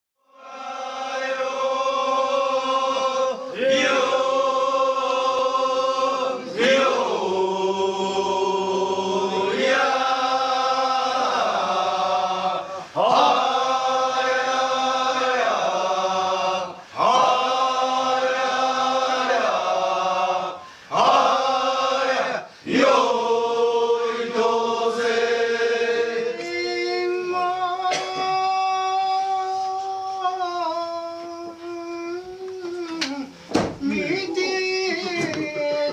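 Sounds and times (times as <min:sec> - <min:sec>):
group of men chanting: 0:00.3 - 0:29.7.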